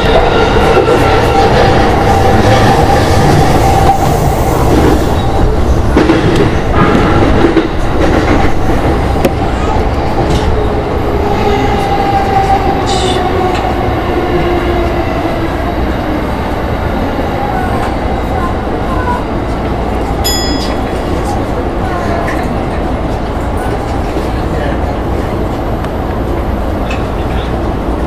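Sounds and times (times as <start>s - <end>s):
electric train running on rails: 0.0s - 28.0s.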